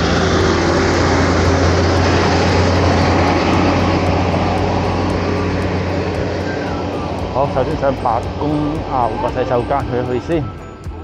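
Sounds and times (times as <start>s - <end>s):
broad rushing noise: 0.0s - 11.0s
bus engine humming: 0.0s - 11.0s.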